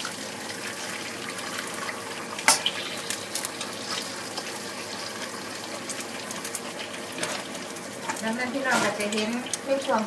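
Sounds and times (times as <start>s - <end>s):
eggs sizzling in hot oil: 0.0s - 10.0s.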